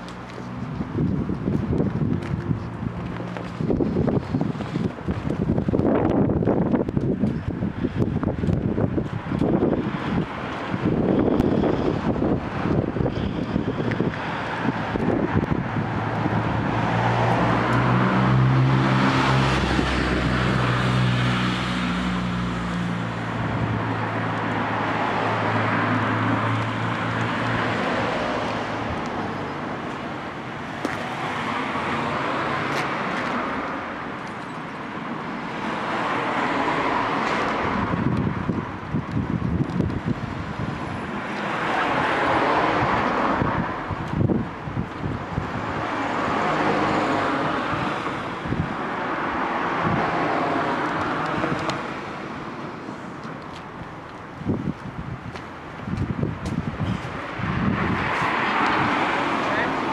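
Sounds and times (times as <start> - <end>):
cars passing by: 0.0 - 59.9.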